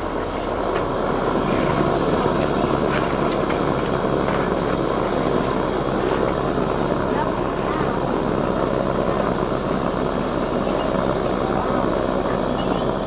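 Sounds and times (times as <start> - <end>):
gas burner rushing: 0.0 - 13.0.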